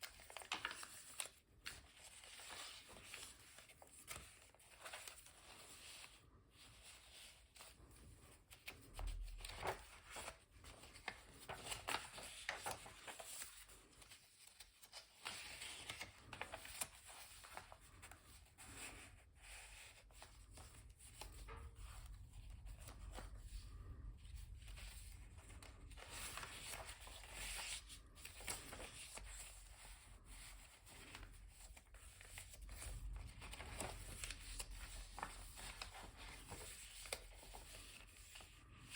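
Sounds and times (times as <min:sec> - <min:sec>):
paper pages rustling: 0:00.0 - 0:38.9.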